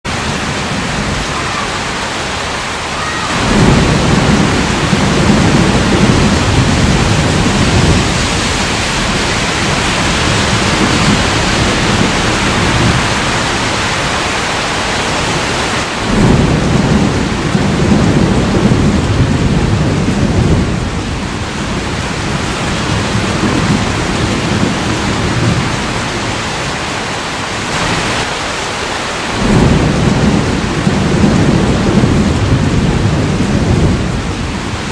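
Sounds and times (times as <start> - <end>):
steady rain: 0.0 - 34.9
low rolling thunder: 0.1 - 26.6, 29.2 - 34.9.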